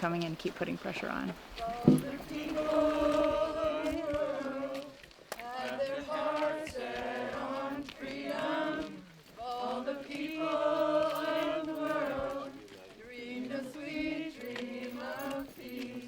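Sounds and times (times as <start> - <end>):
group singing slow chant: 1.4 - 16.0.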